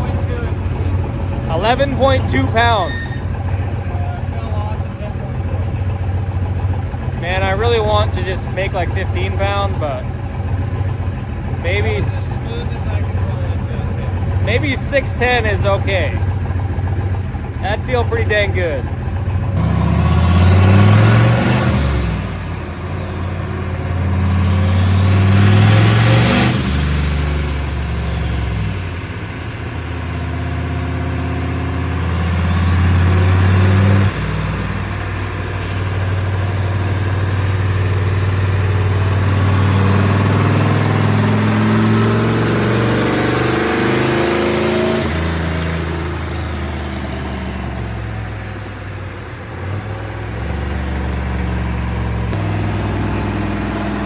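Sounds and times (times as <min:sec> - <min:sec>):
turbo whine: 0:00.0 - 0:50.4
pickup engine revving: 0:00.0 - 0:54.0.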